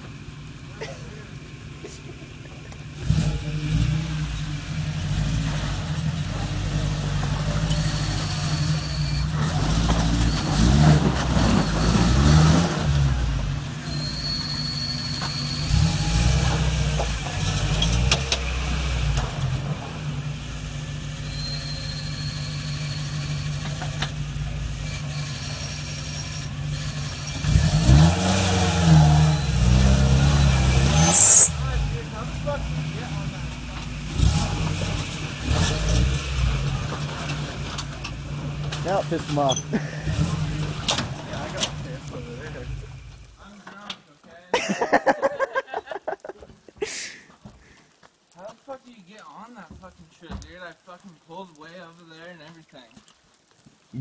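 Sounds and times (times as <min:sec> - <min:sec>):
truck engine revving under load: 0:00.0 - 0:43.4.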